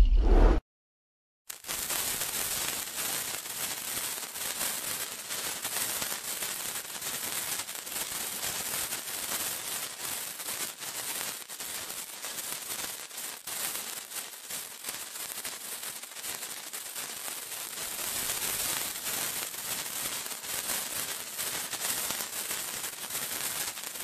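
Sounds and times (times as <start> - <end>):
sparkler hissing and crackling: 1.5 - 24.0.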